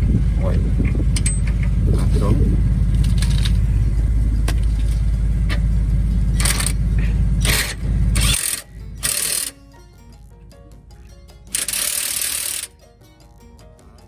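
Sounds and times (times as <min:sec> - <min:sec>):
motor running with low rumble: 0:00.0 - 0:14.0
sharp metallic clinks: 0:00.8 - 0:13.6.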